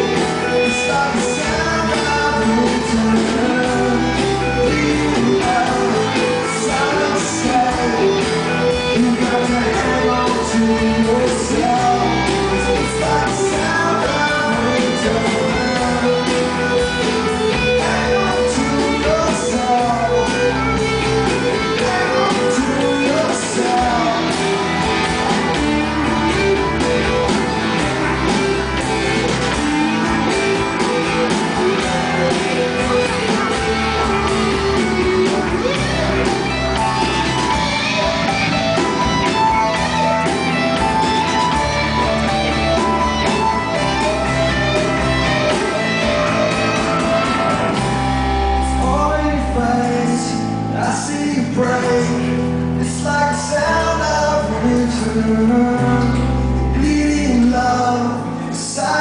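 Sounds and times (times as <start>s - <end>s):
electric guitar lines: 0.0s - 59.0s
live rock band playing: 0.0s - 59.0s
steady bass: 0.0s - 59.0s.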